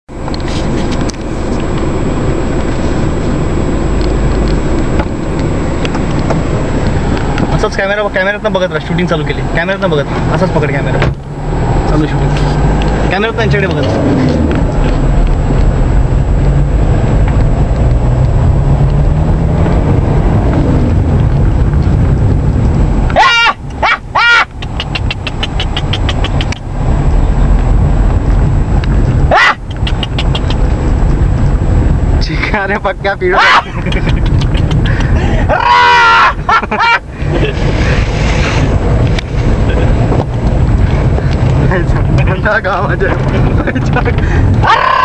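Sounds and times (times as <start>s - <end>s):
car engine and tyres rumbling: 0.0s - 45.0s.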